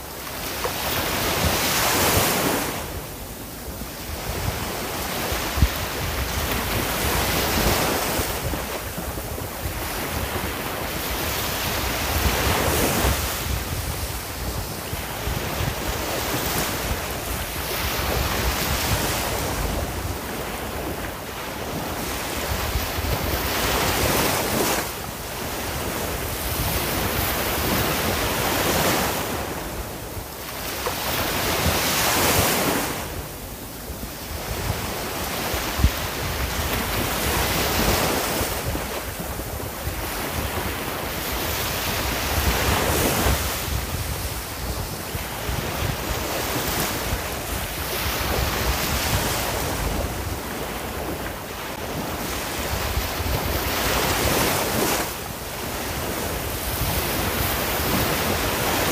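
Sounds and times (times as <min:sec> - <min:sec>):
ocean waves breaking on shore: 0:00.0 - 0:58.9
wind on microphone: 0:00.0 - 0:58.9.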